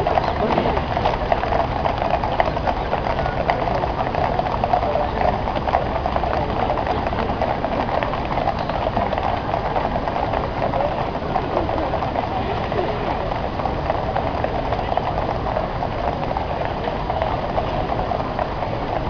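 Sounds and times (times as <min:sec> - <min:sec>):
horse hooves on tarmac: 0:00.0 - 0:19.0.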